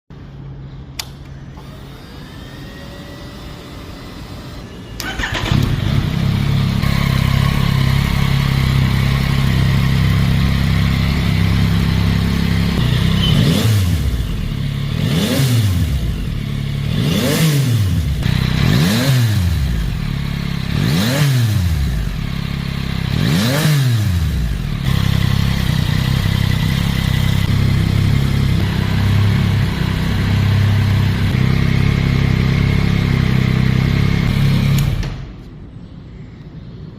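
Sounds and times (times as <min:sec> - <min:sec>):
motorcycle engine starting and idling: 0:00.9 - 0:35.8
engine revving: 0:01.0 - 0:35.3.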